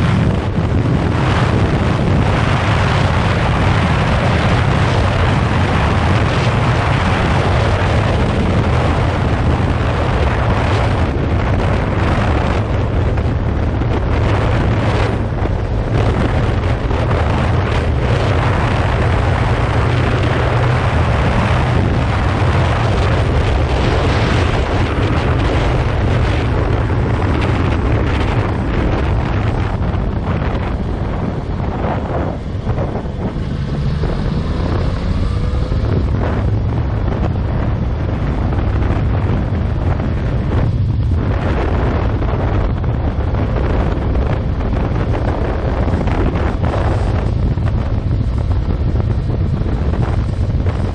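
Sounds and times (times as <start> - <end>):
motorcycle engine droning: 0.0 - 50.9
wind rushing on microphone: 0.0 - 50.9.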